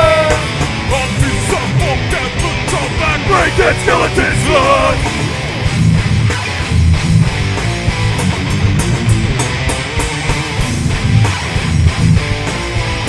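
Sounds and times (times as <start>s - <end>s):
bass guitar: 0.0s - 13.0s
distorted electric guitar: 0.0s - 13.0s
drums with cymbal hits: 0.0s - 13.0s.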